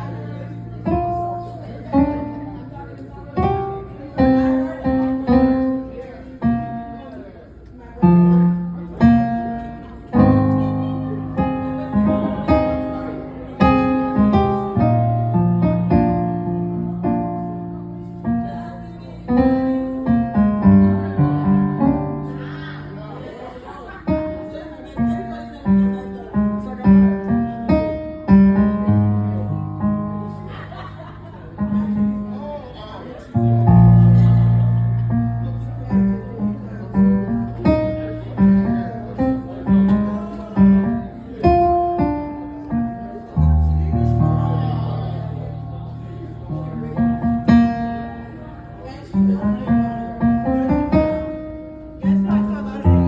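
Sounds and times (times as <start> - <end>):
piano playing slow chords: 0.0 - 53.0.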